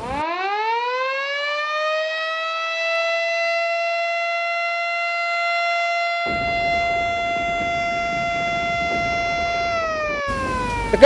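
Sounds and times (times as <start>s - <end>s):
siren steady tone: 0.0s - 11.0s.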